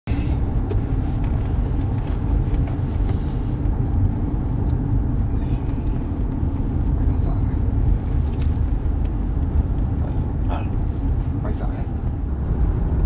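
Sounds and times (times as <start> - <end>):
car engine and road noise: 0.1 - 13.0.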